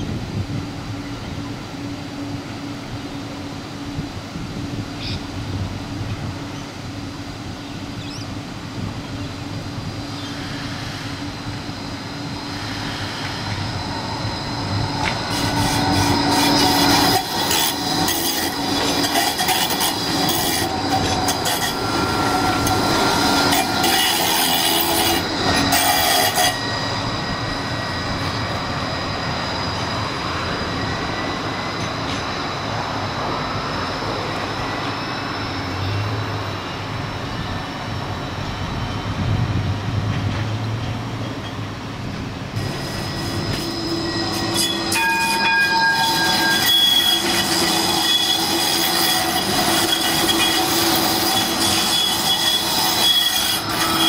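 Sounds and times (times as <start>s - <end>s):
tram wheels squealing: 9.0s - 54.0s.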